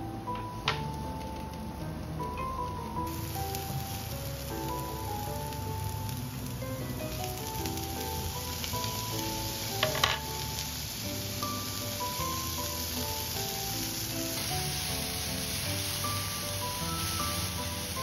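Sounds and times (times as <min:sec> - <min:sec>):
food sizzling in frying pan: 0:00.3 - 0:18.0.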